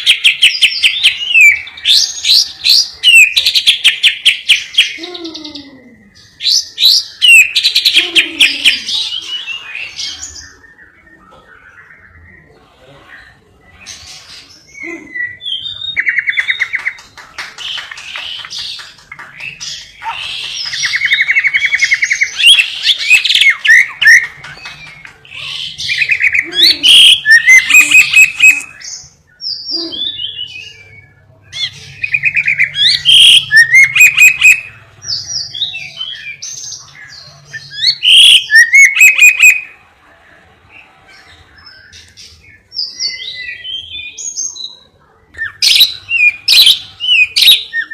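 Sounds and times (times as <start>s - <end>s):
bird singing trills and chirps: 0.0s - 47.9s.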